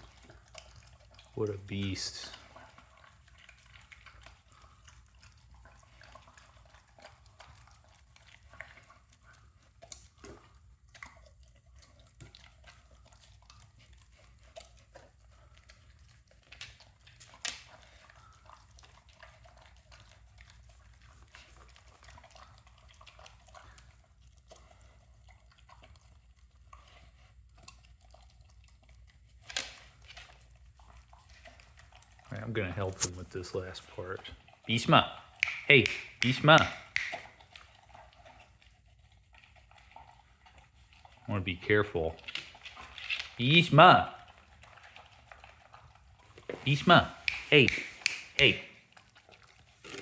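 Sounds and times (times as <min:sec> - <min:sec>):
dog licking and chewing: 0:00.0 - 0:50.0.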